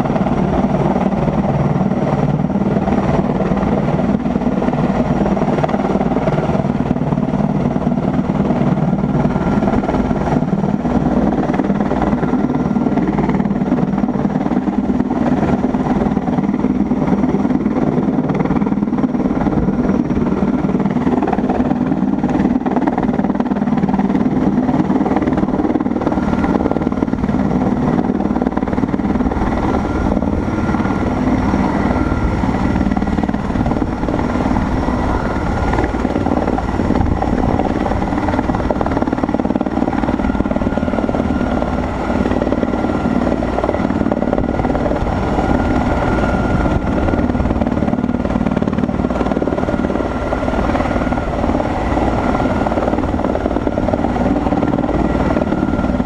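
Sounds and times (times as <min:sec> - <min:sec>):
helicopter rotor drone: 0:00.0 - 0:56.0
helicopter turbine whine: 0:00.0 - 0:56.0.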